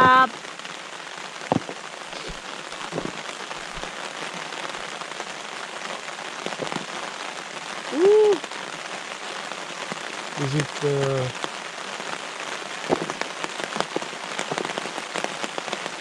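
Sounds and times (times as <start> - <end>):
rain pounding on umbrella: 0.0 - 16.0.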